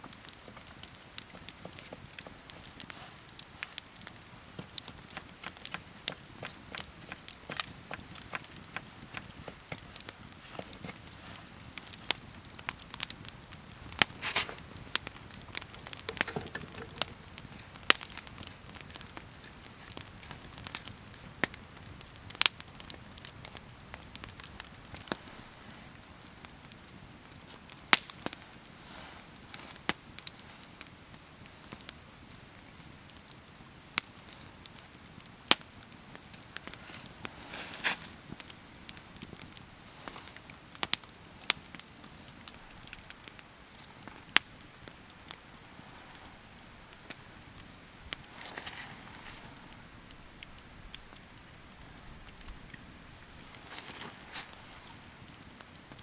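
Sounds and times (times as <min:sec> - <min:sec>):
campfire crackling and popping: 0:00.0 - 0:56.0
low steady hiss: 0:00.0 - 0:56.0.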